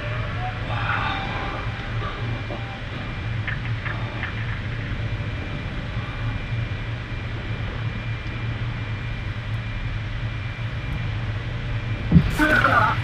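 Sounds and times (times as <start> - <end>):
faint thin whine: 0.0 - 13.0
low droning machinery hum: 0.0 - 13.0.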